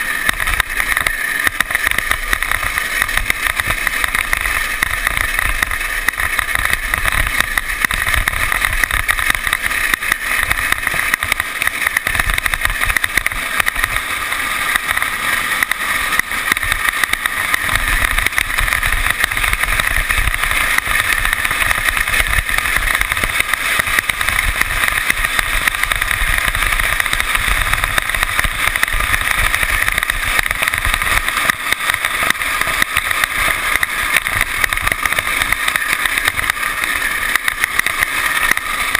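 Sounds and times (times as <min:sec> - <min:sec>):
wheel and road noise: 0:00.0 - 0:38.9.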